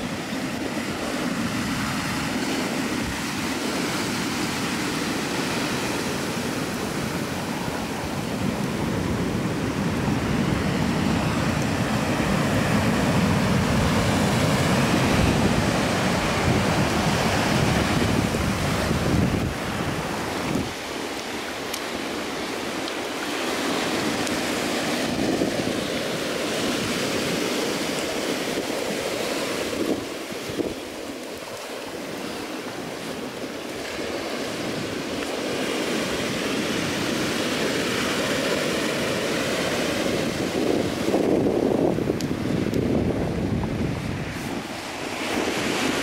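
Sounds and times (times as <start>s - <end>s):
ocean surf breaking: 0.0s - 46.0s
wind buffeting microphone: 0.0s - 46.0s.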